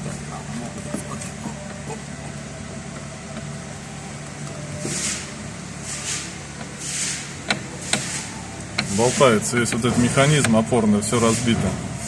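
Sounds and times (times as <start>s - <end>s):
low hum: 0.0s - 11.1s.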